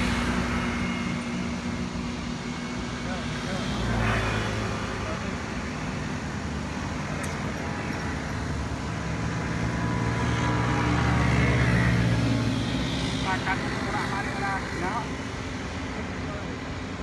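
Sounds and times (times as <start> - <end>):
heavy vehicle passing: 0.0 - 17.0
highway traffic drone: 0.0 - 17.0.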